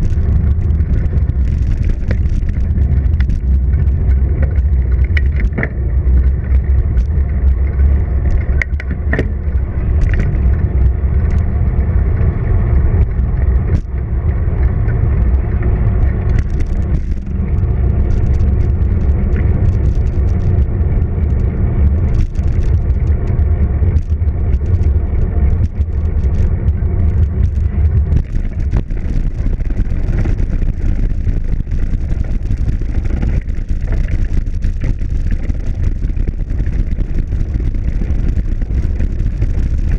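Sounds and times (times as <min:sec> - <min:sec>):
bicycle tyre rumble: 0:00.0 - 0:39.9
small clicks and rattles: 0:00.0 - 0:39.9
wind buffeting microphone: 0:00.0 - 0:39.9.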